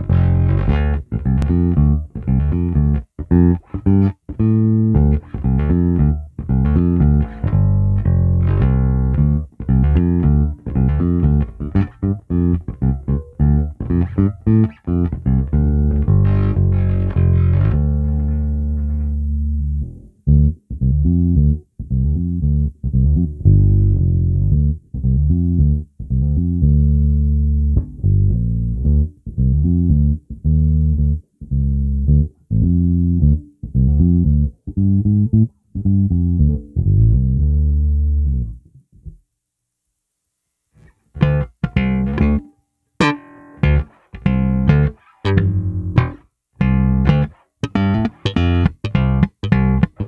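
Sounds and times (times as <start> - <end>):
bass guitar notes through amp: 0.0 - 39.2, 40.8 - 50.0.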